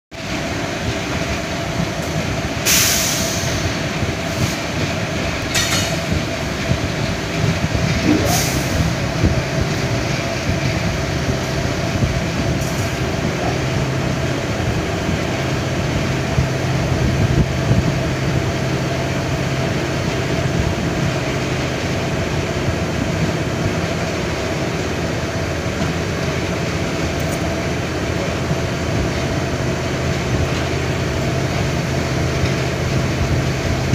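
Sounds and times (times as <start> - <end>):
train wheels rumbling on rails: 0.1 - 33.9.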